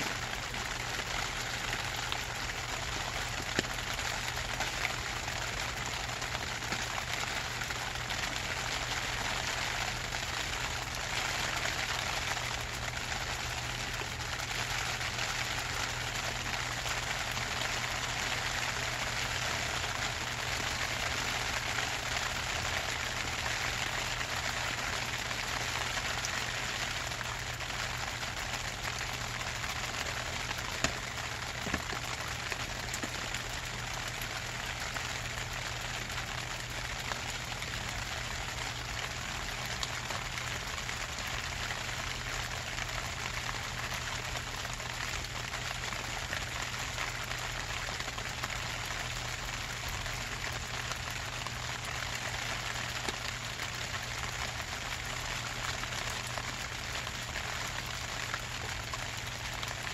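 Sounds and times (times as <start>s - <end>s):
rain pattering on plastic sheeting: 0.0s - 59.9s.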